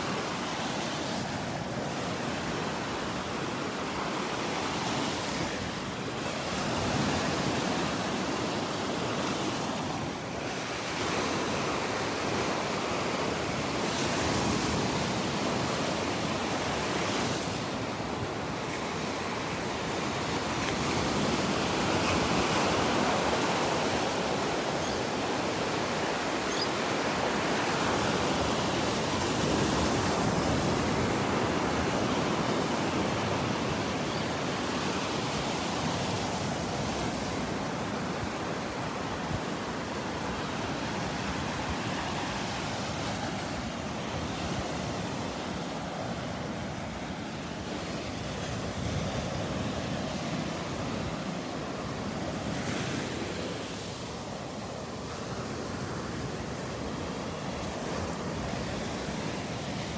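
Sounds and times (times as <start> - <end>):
small waves washing onto beach: 0.0 - 59.9.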